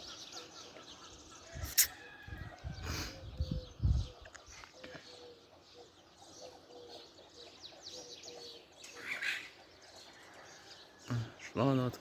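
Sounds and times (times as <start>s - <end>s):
faint birds chirping: 0.0s - 12.0s
pigeons cooing: 0.0s - 12.0s.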